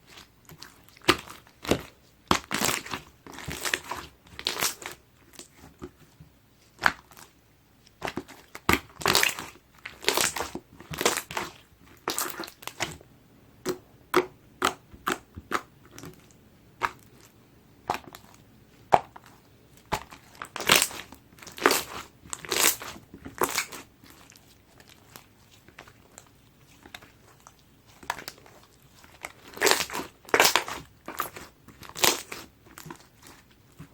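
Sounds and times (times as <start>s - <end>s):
slime crackling and squelching: 0.0s - 13.0s, 13.6s - 33.9s.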